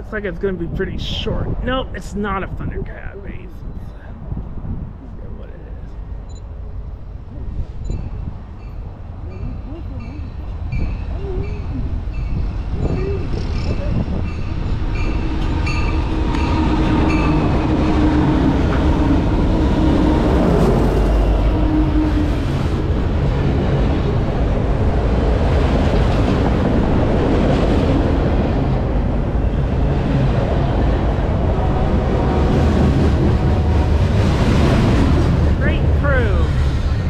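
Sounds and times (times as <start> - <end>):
diesel freight train passing: 0.0 - 37.0
freight cars rumbling and clattering: 0.0 - 37.0.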